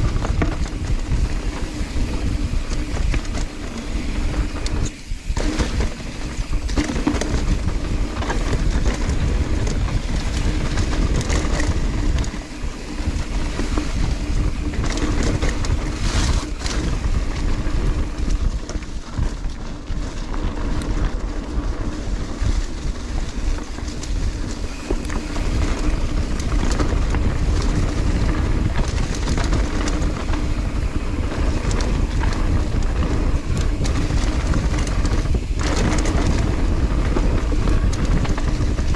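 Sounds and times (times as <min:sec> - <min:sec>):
bike chain and suspension rattling: 0:00.0 - 0:38.9
tyres rolling over dirt: 0:00.0 - 0:38.9
wind on microphone: 0:00.0 - 0:38.9.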